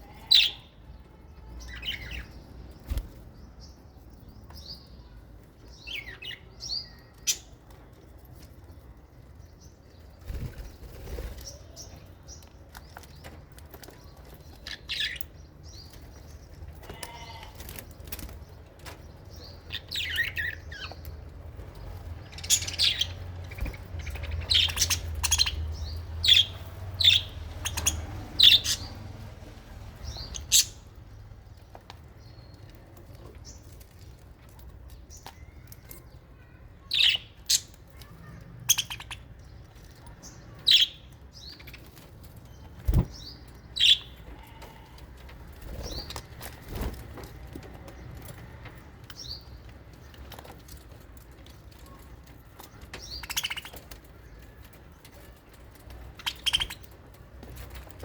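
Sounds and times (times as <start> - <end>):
birds chirping sharply: 0.0 - 34.2, 34.8 - 57.9.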